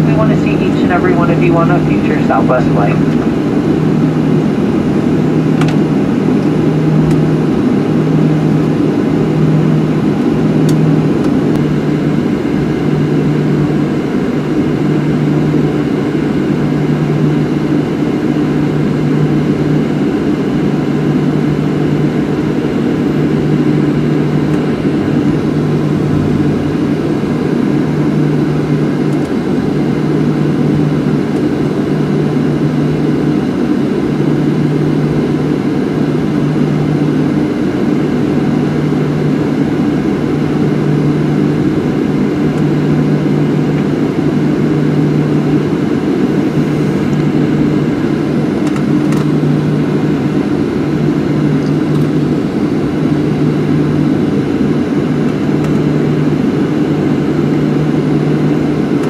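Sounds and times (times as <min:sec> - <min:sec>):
aircraft cabin engine hum: 0:00.0 - 0:59.0.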